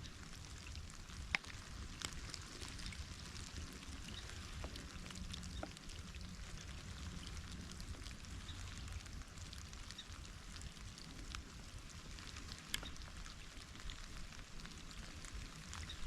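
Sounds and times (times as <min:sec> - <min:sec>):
rain hiss: 0:00.0 - 0:16.0
raindrops ticking: 0:00.0 - 0:16.0.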